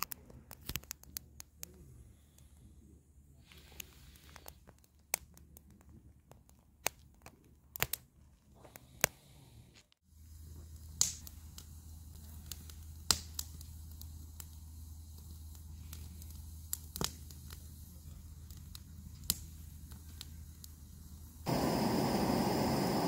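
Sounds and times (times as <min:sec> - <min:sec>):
wood fire crackling and popping: 0:00.0 - 0:02.5, 0:03.4 - 0:09.2, 0:10.2 - 0:23.0.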